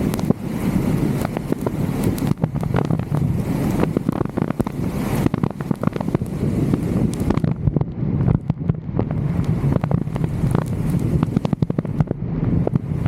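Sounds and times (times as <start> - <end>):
low rumble: 0.0 - 13.0
wind buffeting microphone: 0.0 - 13.0.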